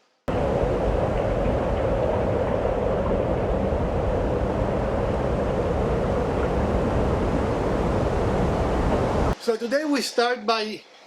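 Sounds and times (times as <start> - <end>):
low hum: 0.3 - 9.4
steady rumbling noise: 0.3 - 9.4.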